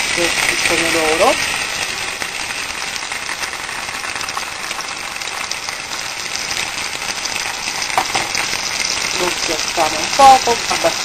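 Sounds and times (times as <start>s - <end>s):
sauce sizzling in oil: 0.0s - 11.0s.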